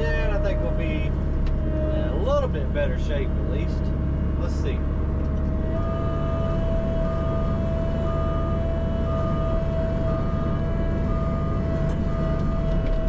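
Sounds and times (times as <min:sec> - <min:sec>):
mini excavator whining: 0:00.0 - 0:13.0.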